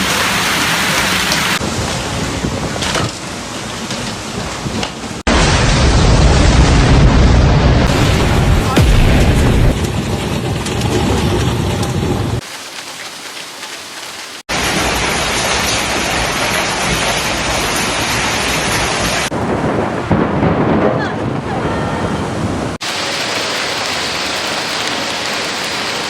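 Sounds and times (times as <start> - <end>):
hail and heavy rain pounding: 0.0 - 26.0.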